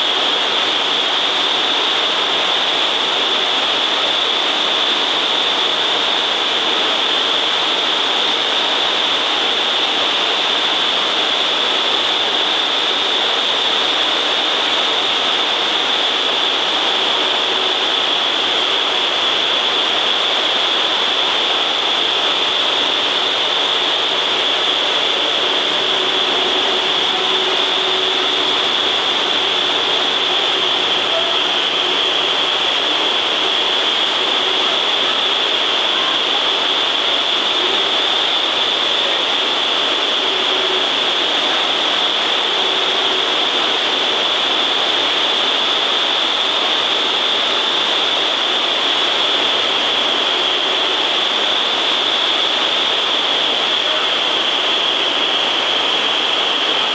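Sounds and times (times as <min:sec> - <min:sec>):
high hiss: 0:00.0 - 0:56.9
loud rush of air: 0:00.0 - 0:56.9.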